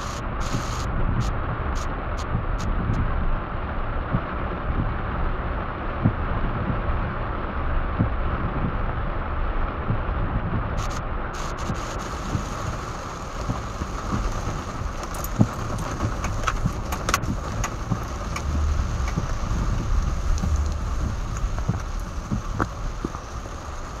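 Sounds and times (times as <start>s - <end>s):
heavy rain on car roof: 0.0s - 24.0s
low rumble: 0.0s - 24.0s
raindrops ticking: 0.0s - 24.0s.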